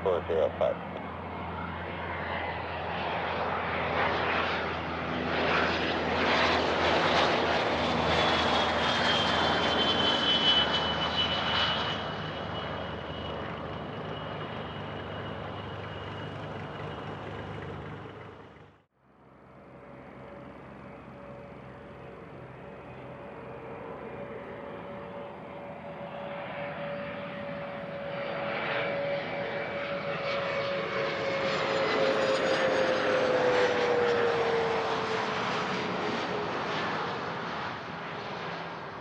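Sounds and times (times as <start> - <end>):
high jet whine: 0.0 - 39.0
jet engine passing by: 0.0 - 39.0.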